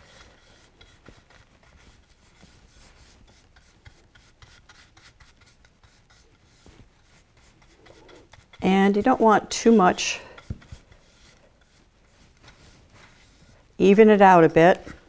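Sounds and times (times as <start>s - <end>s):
paint brush strokes: 0.0s - 15.0s.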